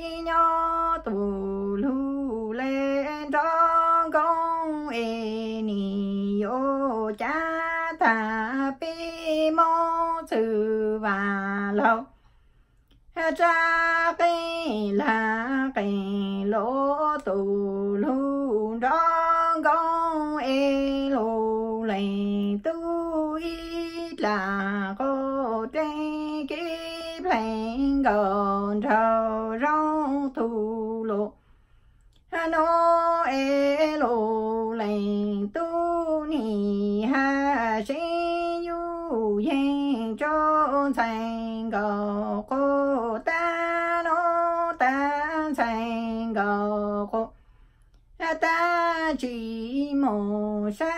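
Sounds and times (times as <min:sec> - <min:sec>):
woman singing unaccompanied: 0:00.0 - 0:12.2, 0:12.9 - 0:31.4, 0:32.2 - 0:47.4, 0:48.1 - 0:50.9.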